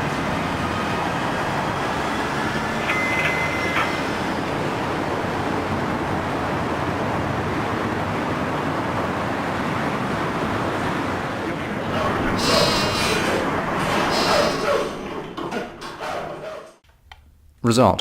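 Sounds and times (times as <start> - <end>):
dense city traffic: 0.0 - 15.9.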